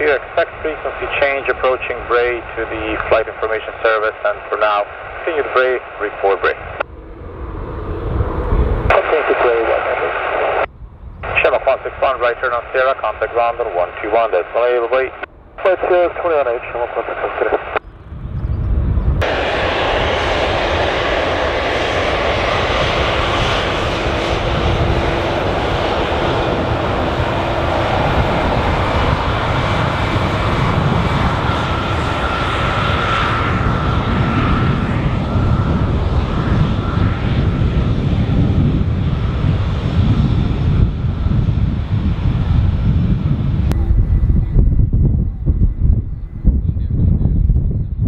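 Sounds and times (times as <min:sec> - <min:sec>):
jet engines whining: 0:00.0 - 0:47.3
low rumble: 0:03.4 - 0:48.0.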